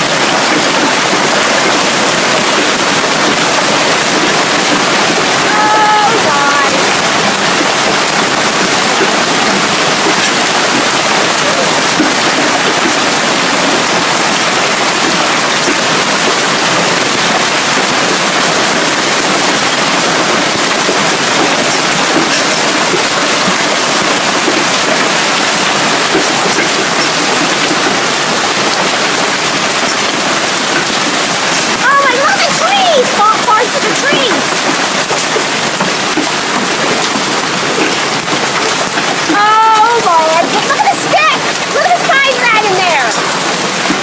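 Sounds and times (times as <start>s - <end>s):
hail and heavy rain falling: 0.0s - 44.0s.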